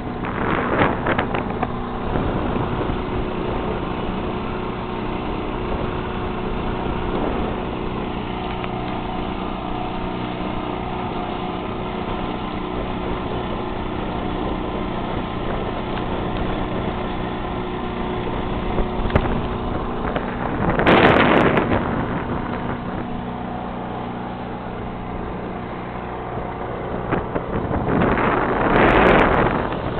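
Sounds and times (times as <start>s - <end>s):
boat engine humming: 0.0s - 29.9s
wind buffeting microphone: 0.0s - 29.9s.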